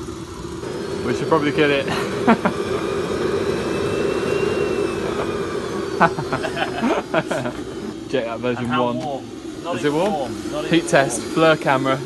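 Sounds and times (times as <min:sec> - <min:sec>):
high turbine whine: 0:00.0 - 0:12.0
jet turbines roaring: 0:00.0 - 0:12.0
voices: 0:00.6 - 0:12.0.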